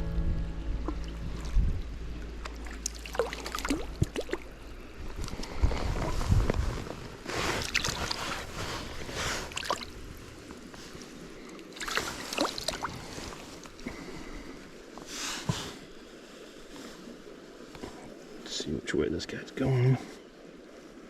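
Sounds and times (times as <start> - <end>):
flowing stream water: 0.0 - 21.0
water sloshing and splashing: 0.8 - 18.4.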